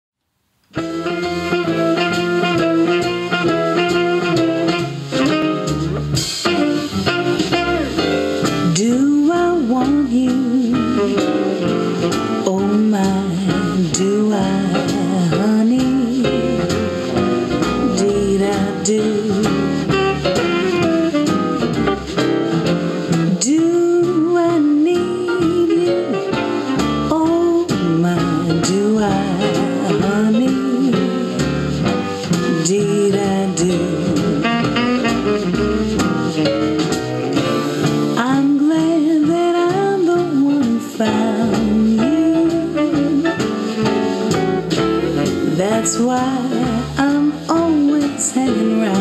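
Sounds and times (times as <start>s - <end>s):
blues jazz guitar over drums: 0.7s - 49.0s.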